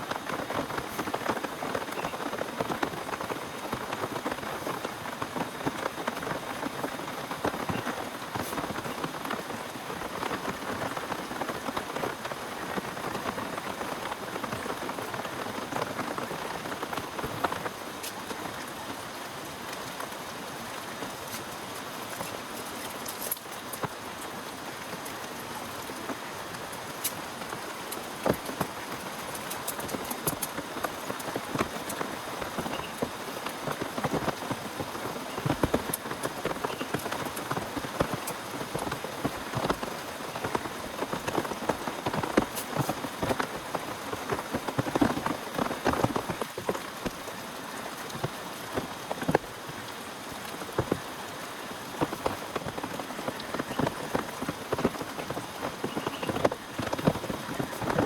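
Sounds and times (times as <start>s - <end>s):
heavy rain: 0.0s - 58.0s
raindrops tapping a surface: 0.0s - 58.0s.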